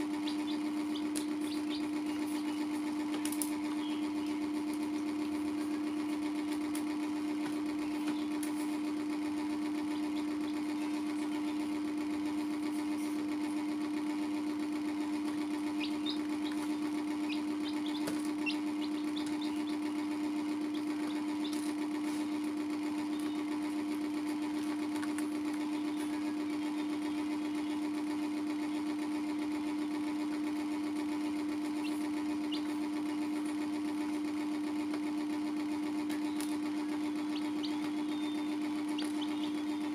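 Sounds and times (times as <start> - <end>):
chicks cheeping: 0.0 - 39.9
electric motor hum: 0.0 - 39.9.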